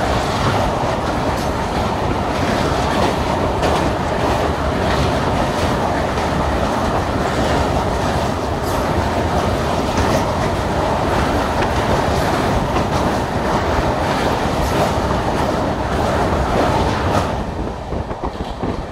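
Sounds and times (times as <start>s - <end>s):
rail clacks: 0.0s - 18.9s
train wheels rumbling on rails: 0.0s - 18.9s.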